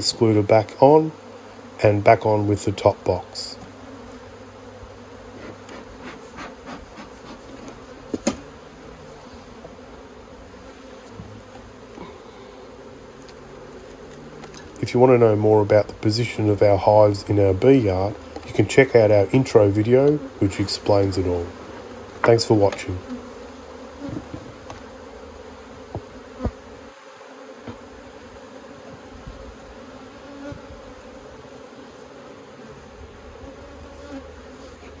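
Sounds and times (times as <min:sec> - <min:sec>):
bees buzzing: 0:00.0 - 0:35.0.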